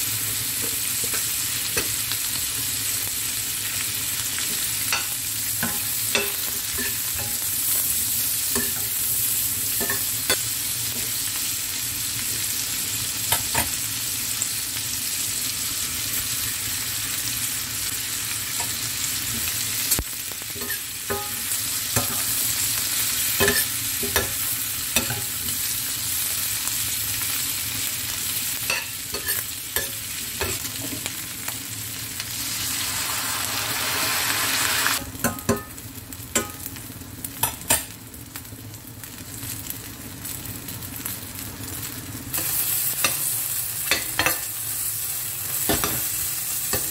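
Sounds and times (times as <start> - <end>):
vegetables and egg sizzling in a pan: 0.0 - 46.9.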